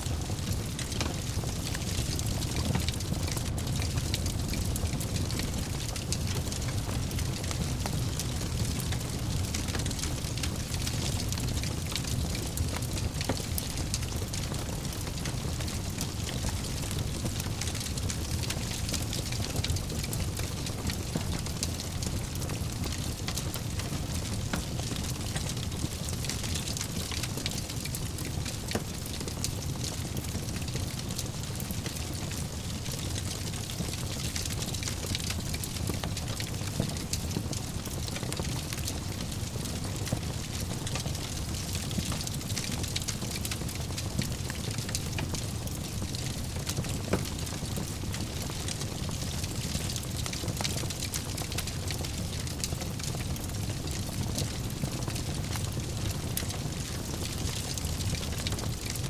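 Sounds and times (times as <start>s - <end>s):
fire crackling and popping: 0.0s - 59.0s
flames rumbling and hissing: 0.0s - 59.0s.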